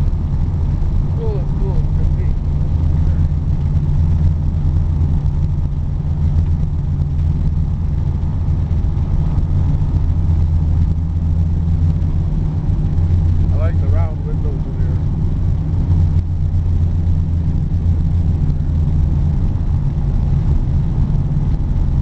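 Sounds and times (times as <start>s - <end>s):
snowmobile engine drone: 0.0s - 22.0s.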